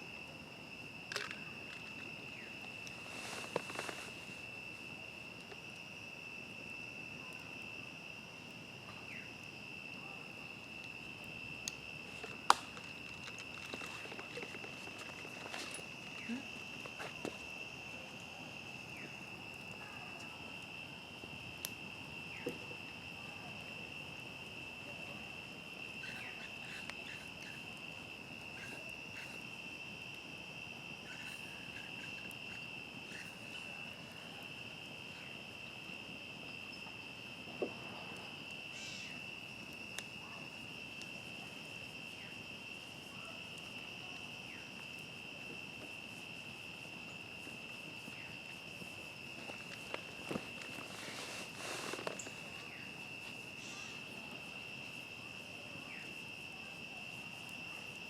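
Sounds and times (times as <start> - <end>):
crickets trilling: 0.0 - 58.0
campfire crackling and popping: 0.2 - 38.7, 39.4 - 55.5.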